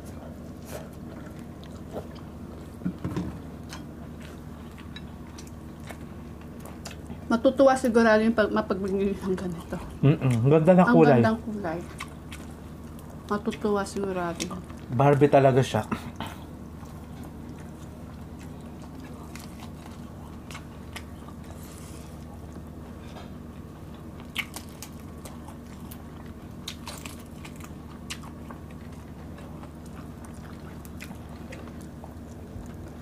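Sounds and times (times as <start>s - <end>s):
chewing: 0.0s - 7.3s, 11.7s - 14.9s, 15.8s - 33.0s
steady low hum: 0.0s - 33.0s.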